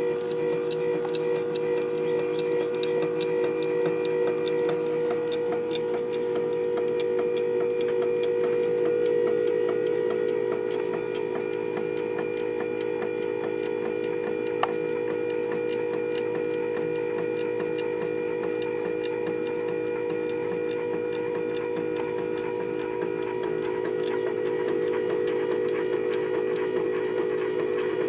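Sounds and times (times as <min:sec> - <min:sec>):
stepper motor whining and ticking: 0:00.0 - 0:28.0.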